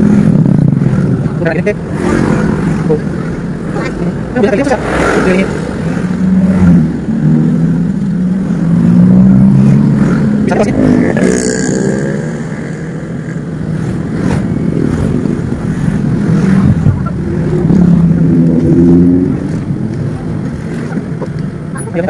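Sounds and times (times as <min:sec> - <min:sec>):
motorcycle passing: 0:00.0 - 0:21.7
cars driving by: 0:00.0 - 0:22.0.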